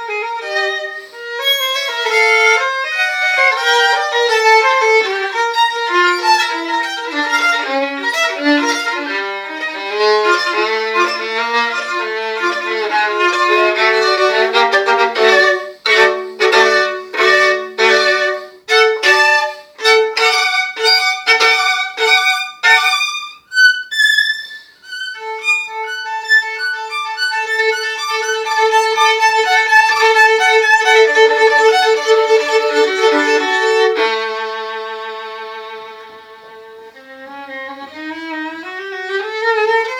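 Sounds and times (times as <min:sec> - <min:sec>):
violin playing: 0:00.0 - 0:39.9.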